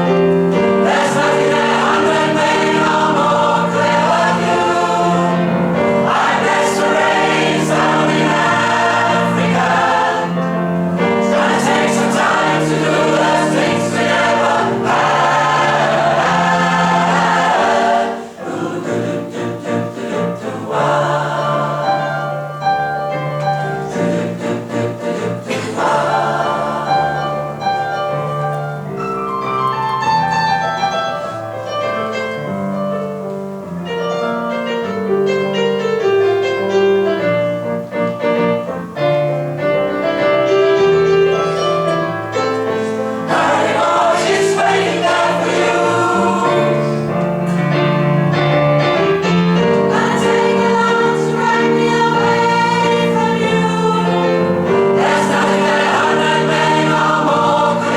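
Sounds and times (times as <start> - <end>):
choir singing in harmony: 0.0 - 32.5, 34.3 - 57.9.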